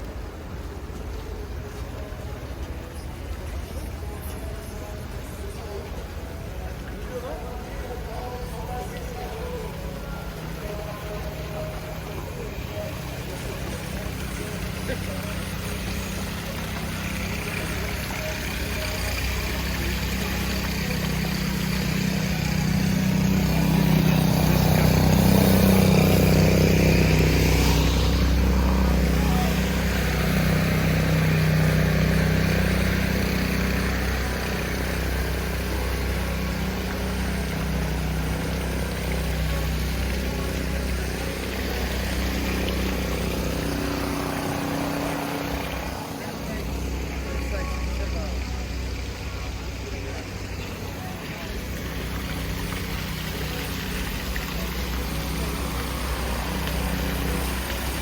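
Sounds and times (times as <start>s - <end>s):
street noise: 0.0s - 58.0s
vehicle engine humming: 0.0s - 58.0s.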